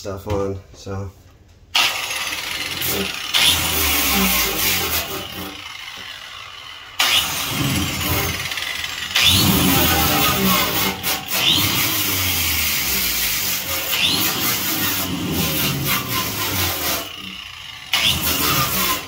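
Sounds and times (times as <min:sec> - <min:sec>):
angle grinder wire brush on metal: 0:01.8 - 0:19.0.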